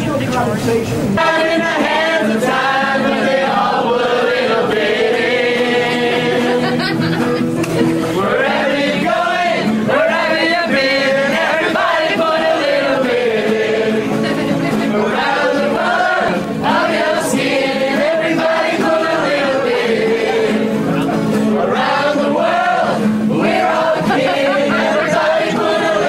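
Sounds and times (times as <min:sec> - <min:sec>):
choir singing: 0:01.2 - 0:07.0, 0:08.0 - 0:26.0.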